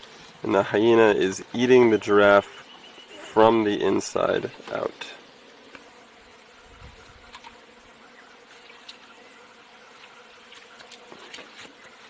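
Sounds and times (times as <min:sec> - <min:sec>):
flies buzzing: 0:00.0 - 0:12.0.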